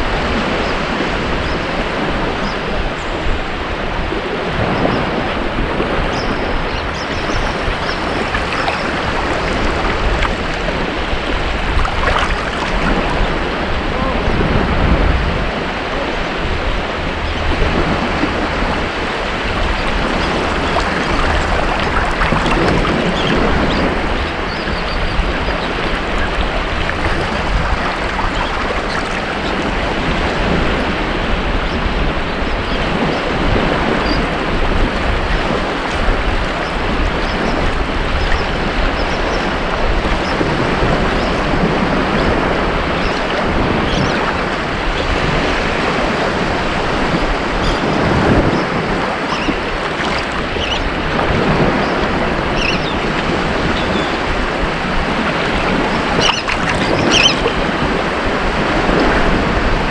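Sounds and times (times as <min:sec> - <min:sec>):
ocean waves breaking on beach: 0:00.0 - 0:59.9
wind on microphone: 0:00.0 - 0:59.9.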